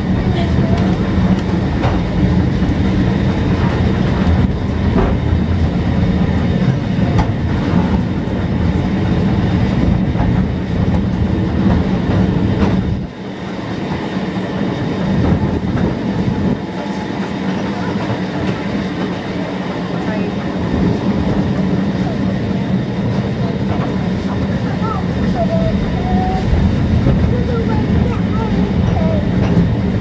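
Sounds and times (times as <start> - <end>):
tram wheels rumbling on rails: 0.0 - 30.0.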